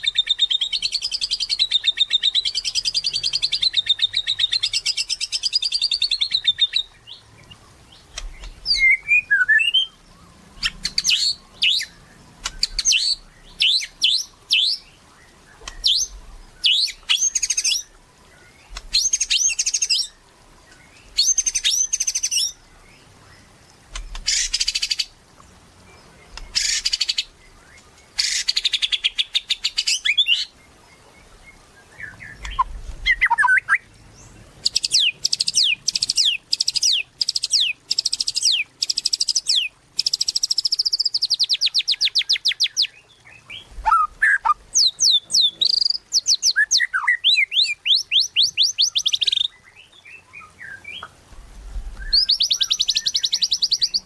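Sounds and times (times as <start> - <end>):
bird singing rapid trills: 0.0 - 20.2, 20.8 - 25.2, 25.8 - 51.0, 52.0 - 54.0.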